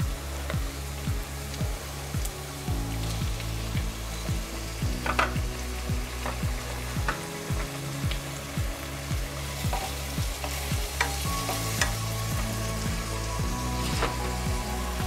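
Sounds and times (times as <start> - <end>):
background music with low beat: 0.0 - 15.0
vegetables sizzling in butter: 0.0 - 15.0.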